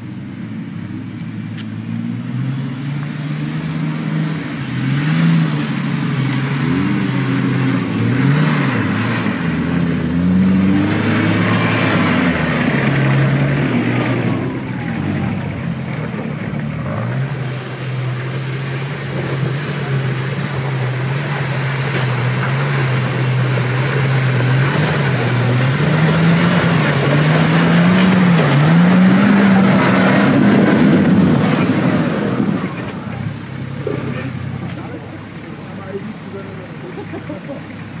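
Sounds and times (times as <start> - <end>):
car engine running and revving: 0.0 - 38.0.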